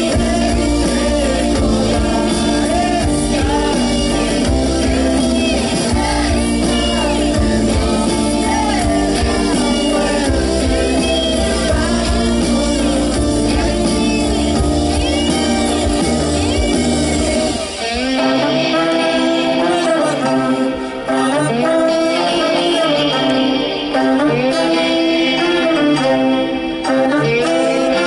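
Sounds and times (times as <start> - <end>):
electric guitars: 0.0 - 28.0
person singing: 0.0 - 28.0
rock band playing: 0.0 - 28.0.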